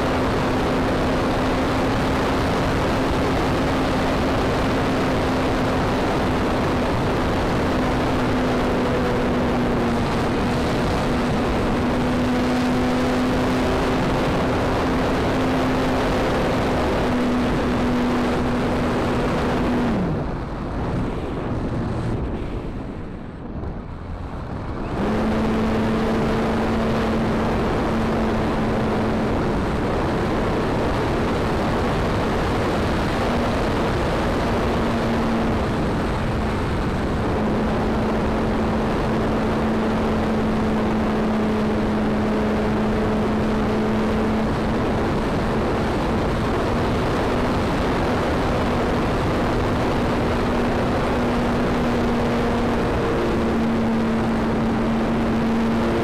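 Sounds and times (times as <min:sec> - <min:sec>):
wind rush: 0:00.0 - 0:56.0.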